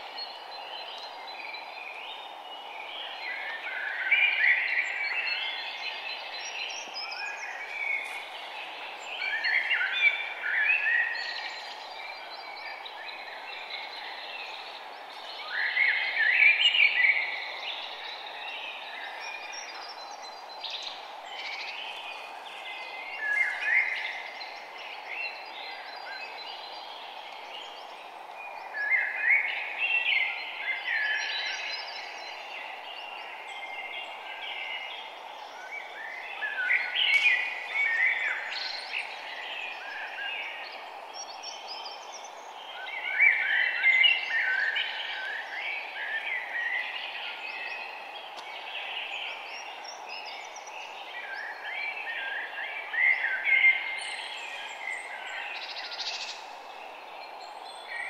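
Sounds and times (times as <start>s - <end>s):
songbirds singing: 0.0s - 58.0s
steady background hiss: 0.0s - 58.0s.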